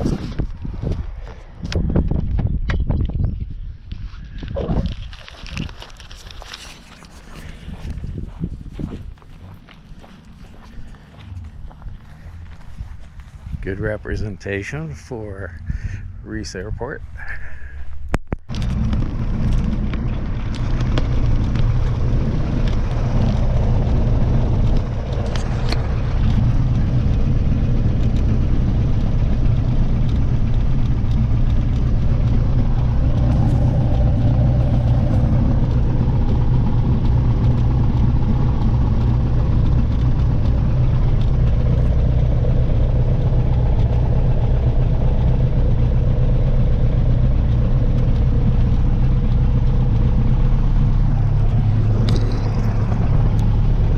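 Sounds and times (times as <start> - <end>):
light airplane engine droning: 5.2 - 53.9.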